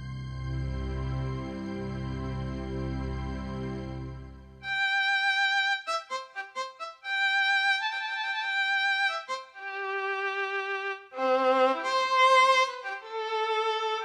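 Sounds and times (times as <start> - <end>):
digital piano violin melody: 0.0 - 14.0.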